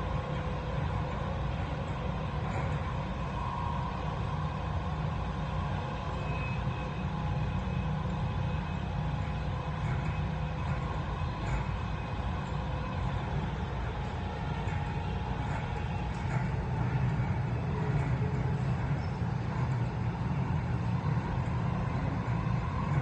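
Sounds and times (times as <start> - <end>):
faint steady tones: 0.0 - 23.0
train wheels rumbling: 0.0 - 23.0.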